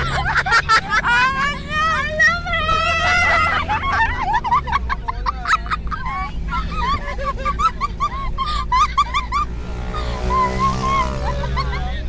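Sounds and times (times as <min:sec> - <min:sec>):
engine and road rumble: 0:00.0 - 0:12.0
people laughing in squeals: 0:00.0 - 0:12.0.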